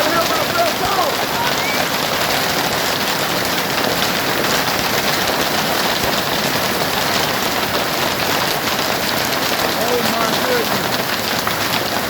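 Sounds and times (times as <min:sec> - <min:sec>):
heavy hail and rain pelting: 0:00.0 - 0:12.0.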